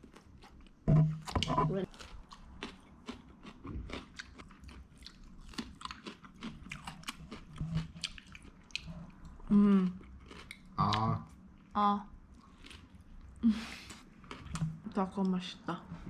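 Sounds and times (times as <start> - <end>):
person chewing crunchy food: 0.0 - 11.4, 12.3 - 14.8.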